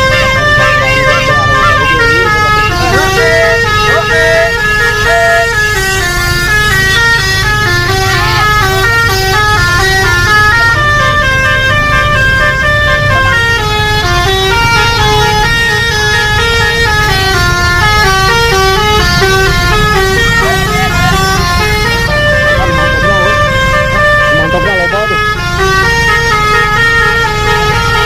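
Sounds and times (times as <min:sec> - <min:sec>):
bus musical horn melody: 0:00.0 - 0:28.0.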